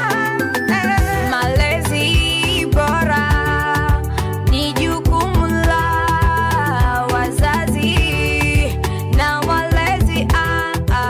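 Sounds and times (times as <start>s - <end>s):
upbeat music with steady beat: 0.0s - 11.0s.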